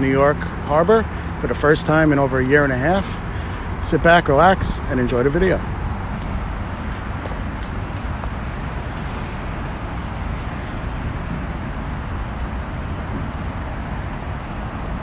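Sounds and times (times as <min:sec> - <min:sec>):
road traffic roar: 0:00.0 - 0:15.0
wind buffeting microphone: 0:02.9 - 0:15.0.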